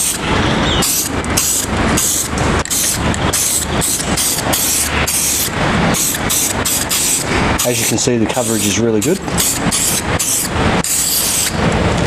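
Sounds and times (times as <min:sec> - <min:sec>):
spray can hissing: 0:00.8 - 0:11.6.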